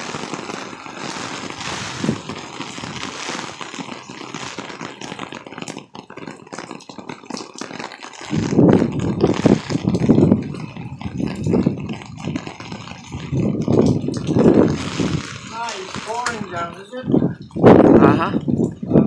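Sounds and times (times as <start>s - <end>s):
heavy rain pouring: 0.0s - 19.0s
water dripping off awning: 0.0s - 19.0s.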